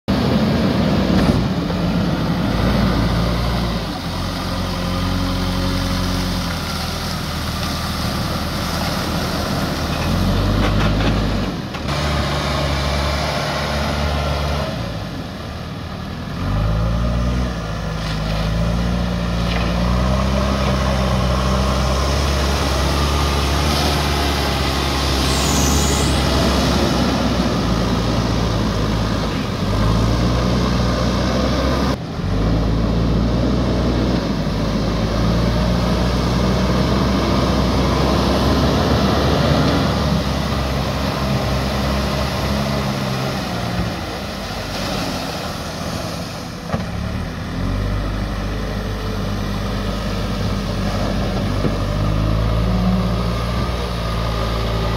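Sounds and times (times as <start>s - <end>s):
diesel engine revving: 0.1s - 54.9s
water splashing around wheels: 0.1s - 54.9s.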